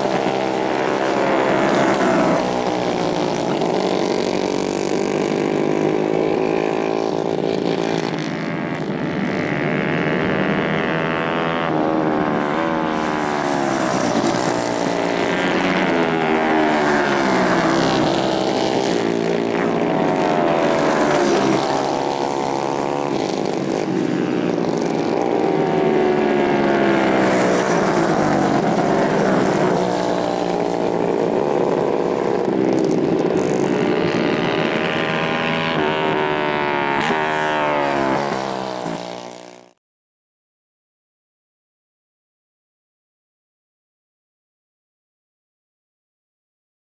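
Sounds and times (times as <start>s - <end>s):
kart engines racing: 0.0s - 39.8s.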